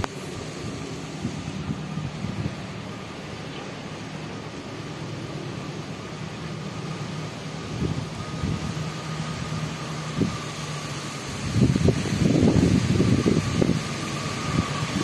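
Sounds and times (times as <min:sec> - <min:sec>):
high whine: 0:00.0 - 0:15.0
locomotive engine drone: 0:00.0 - 0:15.0.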